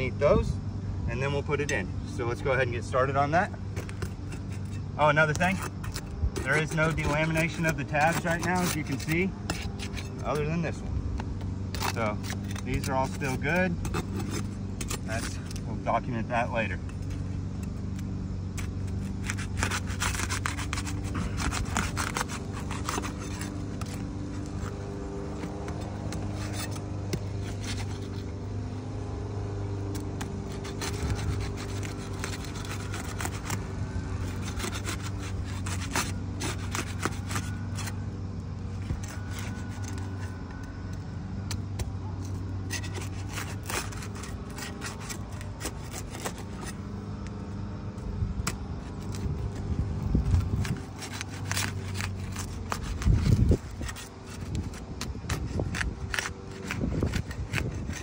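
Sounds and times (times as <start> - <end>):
steady low hum: 0.0 - 58.0
roofing tool scraping shingles: 1.2 - 58.0.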